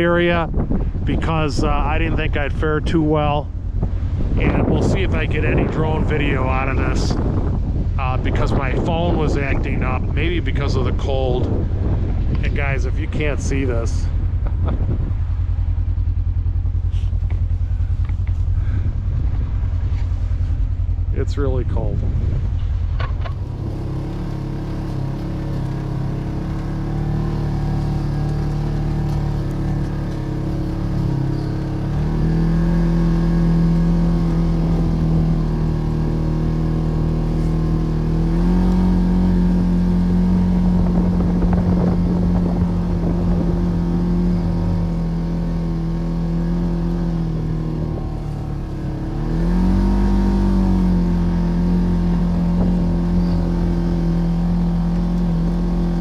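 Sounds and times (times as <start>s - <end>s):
off-road vehicle engine under load: 0.0s - 56.0s.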